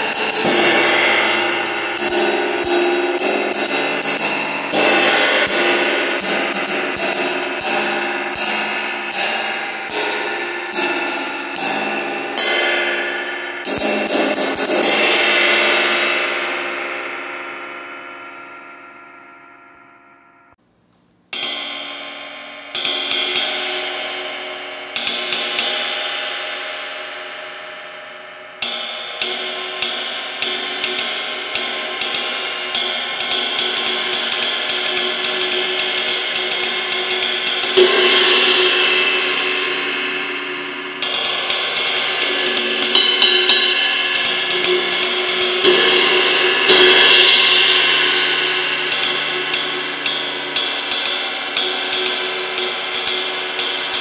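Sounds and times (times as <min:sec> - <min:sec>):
ride cymbal struck with drumstick: 0:00.0 - 0:19.4, 0:21.3 - 0:26.8, 0:28.6 - 0:54.0.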